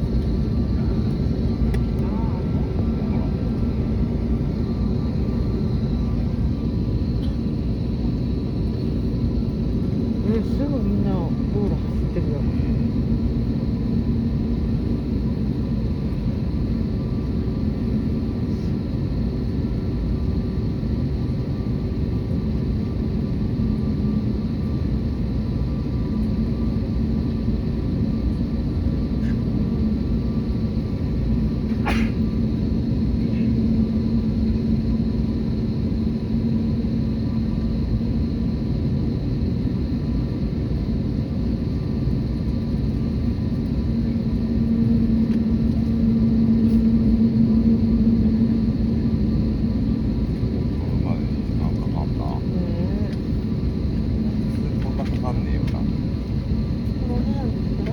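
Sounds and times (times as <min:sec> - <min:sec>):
jet engines rumbling: 0:00.0 - 0:57.9.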